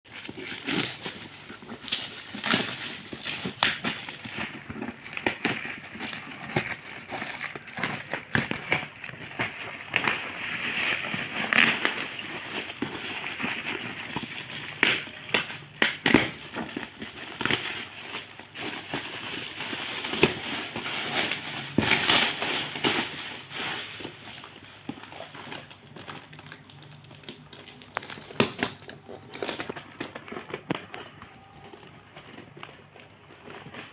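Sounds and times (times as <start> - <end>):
packaging crinkling and rustling: 0.1 - 33.9.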